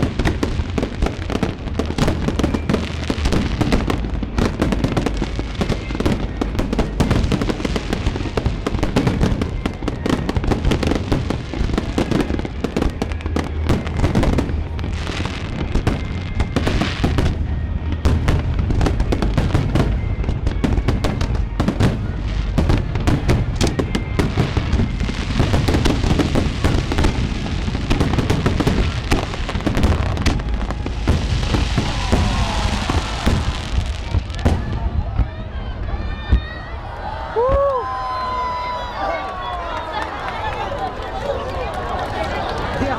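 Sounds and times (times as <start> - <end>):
deep fireworks booms: 0.0 - 36.7
fireworks bursting and crackling: 0.0 - 36.7, 37.4 - 42.9.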